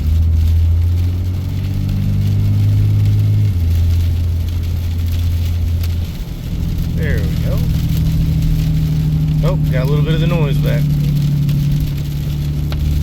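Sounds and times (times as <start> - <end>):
diesel truck engine hum: 0.0 - 13.0.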